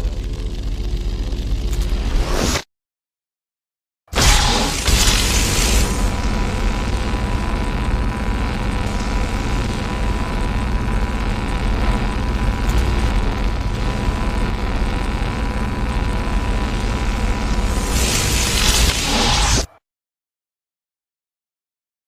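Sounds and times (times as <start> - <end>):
lightsaber electric hum: 0.0 - 2.6, 4.2 - 19.8.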